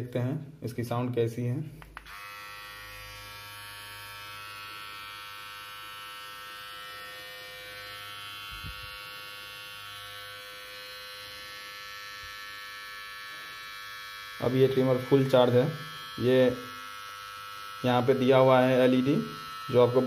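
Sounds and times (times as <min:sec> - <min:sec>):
beard trimmer buzzing: 0:01.8 - 0:20.0.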